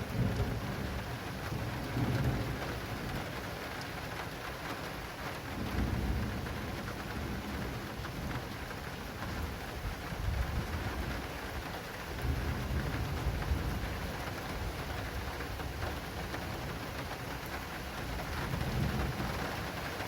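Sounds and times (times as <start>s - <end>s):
low thunder rumbling: 0.0s - 3.5s, 5.5s - 19.9s
rain on an awning: 0.0s - 20.0s.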